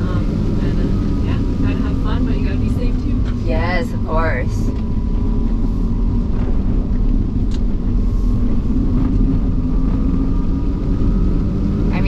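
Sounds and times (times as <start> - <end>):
tyre and chassis rumble: 0.0 - 12.0.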